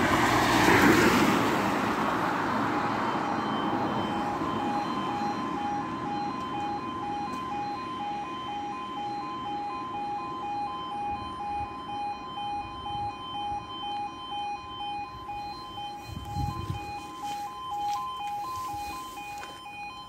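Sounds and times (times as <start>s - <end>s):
road noise: 0.0s - 20.0s
two-tone crossing alarm: 0.0s - 20.0s.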